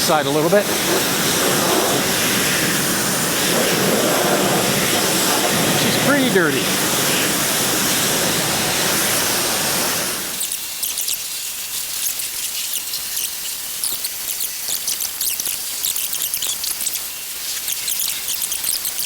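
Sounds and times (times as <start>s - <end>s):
pressure wand spraying water: 0.0s - 19.0s.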